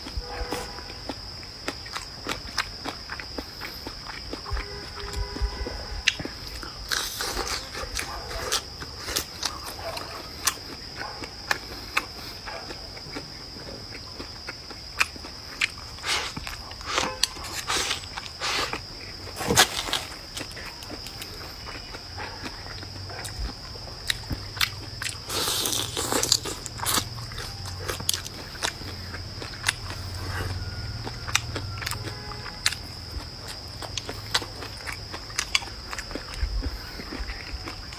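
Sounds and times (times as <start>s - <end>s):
person biting and chewing food: 0.0s - 37.9s.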